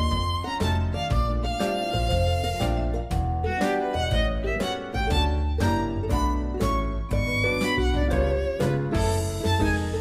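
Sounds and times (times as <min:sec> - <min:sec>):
pulsing bass: 0:00.0 - 0:10.0
violin melody: 0:00.0 - 0:10.0.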